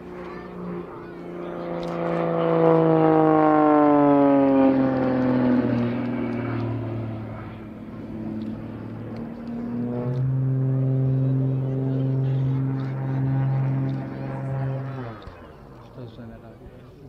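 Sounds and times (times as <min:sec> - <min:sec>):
propeller plane engine passing by: 0:00.0 - 0:17.0.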